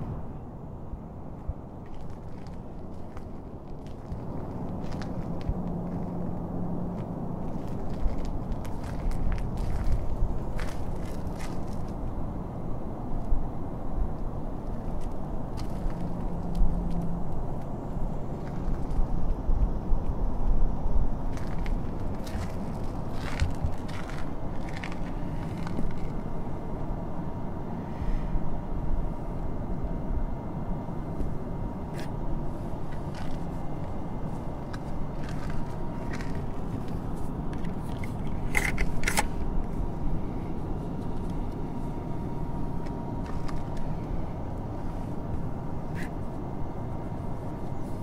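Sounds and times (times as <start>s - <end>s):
low outdoor rumble: 0.0s - 48.0s.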